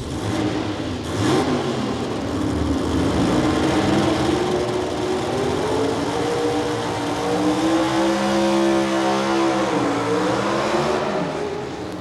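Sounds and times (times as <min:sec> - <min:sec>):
truck engine revving under load: 0:00.0 - 0:12.0.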